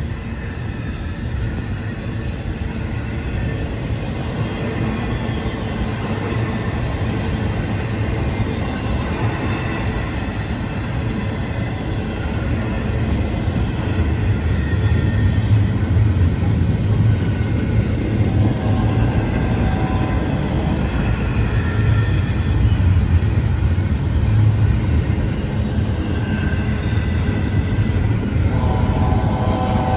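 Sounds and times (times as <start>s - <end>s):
freight train rumbling past: 2.8s - 29.9s.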